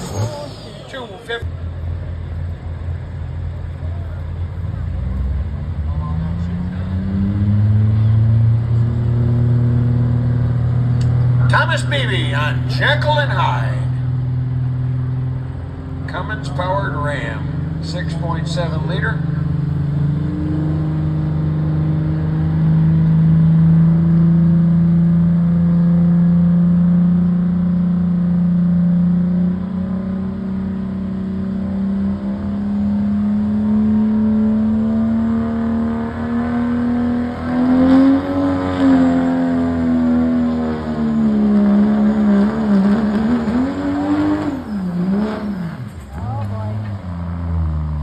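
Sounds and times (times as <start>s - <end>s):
diesel truck engine under load: 0.0s - 48.0s.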